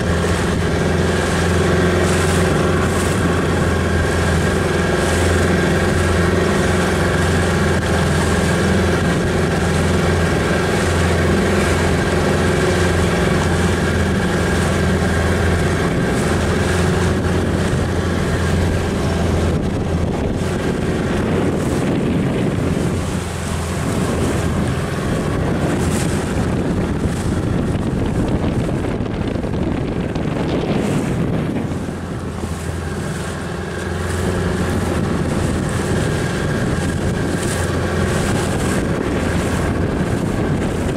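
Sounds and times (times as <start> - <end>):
outboard motor running: 0.0 - 40.9
water rushing past hull: 0.0 - 40.9
wind buffeting microphone: 0.0 - 40.9.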